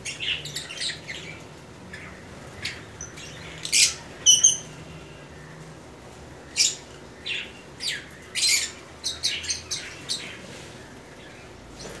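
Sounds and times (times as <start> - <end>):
lovebirds chirping and squawking: 0.0 - 4.8, 6.4 - 12.0.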